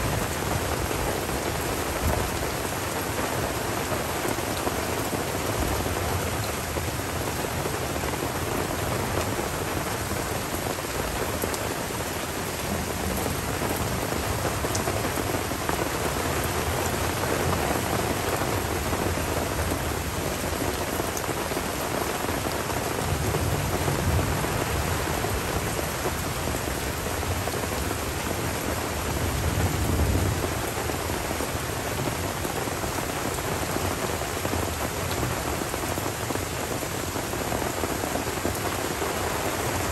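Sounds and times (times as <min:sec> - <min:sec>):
rain falling on forest: 0:00.0 - 0:39.9.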